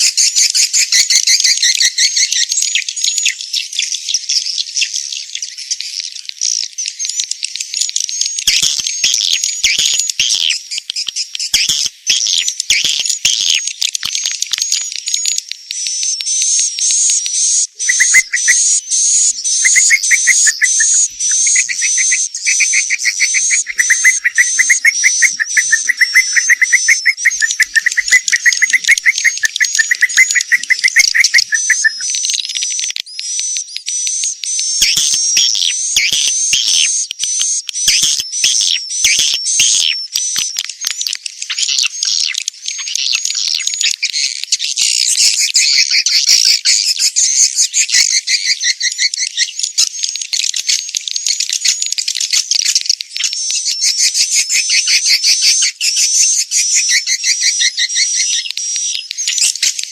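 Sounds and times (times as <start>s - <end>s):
high bird chirps: 0.0s - 59.9s.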